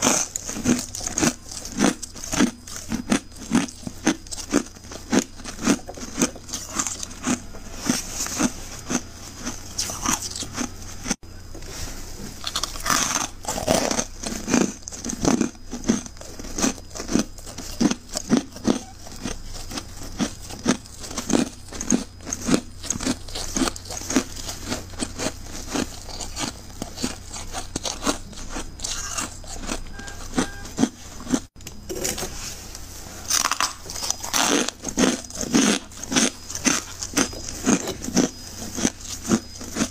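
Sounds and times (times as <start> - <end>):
freezer frost crunching: 0.0 - 39.9.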